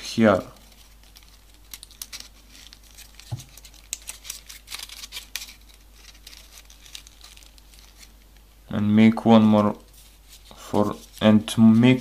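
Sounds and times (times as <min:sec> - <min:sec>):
paper crinkling and rustling: 0:00.1 - 0:08.5, 0:09.6 - 0:12.0.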